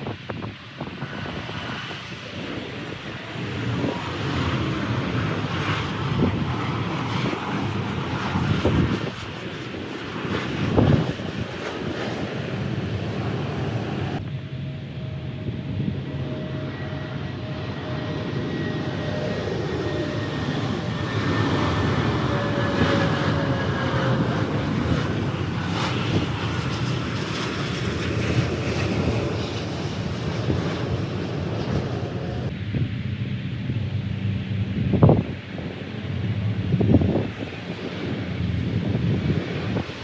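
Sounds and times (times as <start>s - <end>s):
falling engine whine: 0.0s - 40.0s
jet airliner passing low: 0.0s - 40.0s.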